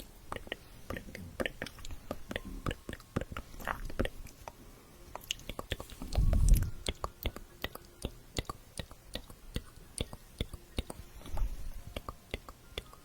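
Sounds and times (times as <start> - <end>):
wet mouth clicks and smacks: 0.3 - 11.4, 12.0 - 13.0.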